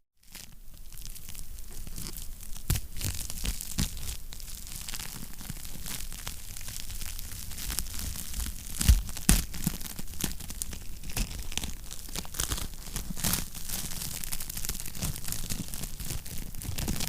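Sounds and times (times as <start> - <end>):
wood fire crackling and popping: 0.8 - 17.0.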